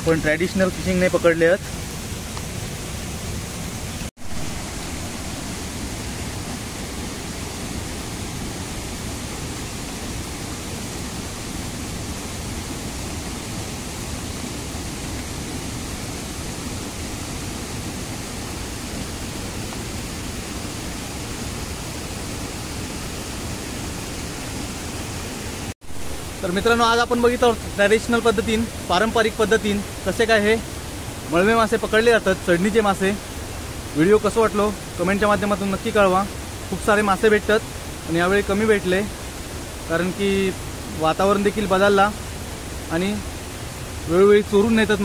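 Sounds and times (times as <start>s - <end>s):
stream rushing: 0.0s - 45.0s.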